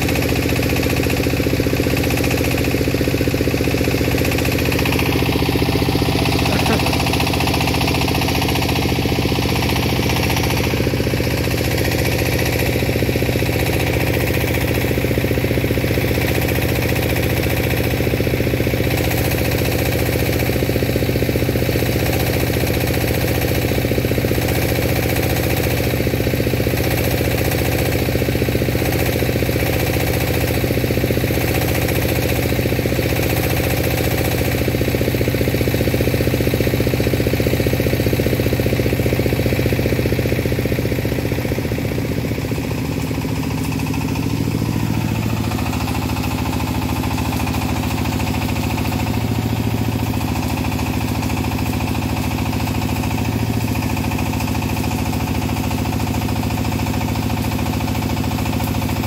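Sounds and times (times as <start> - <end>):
engine low hum: 0.0 - 59.0.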